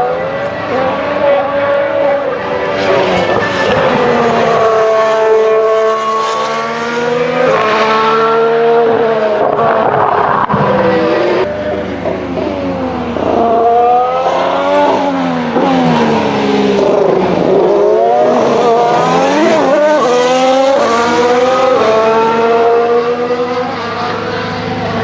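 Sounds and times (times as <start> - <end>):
racing car engine shifting gears: 0.0 - 25.0.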